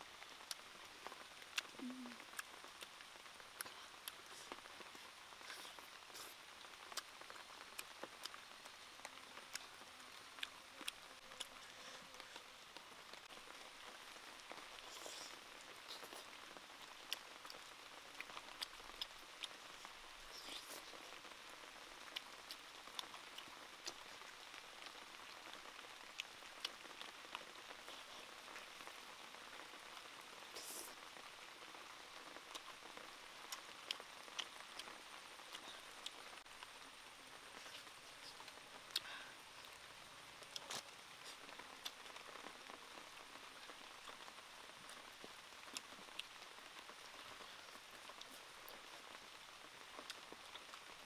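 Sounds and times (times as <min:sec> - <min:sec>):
light rain on foliage: 0:00.0 - 0:51.0.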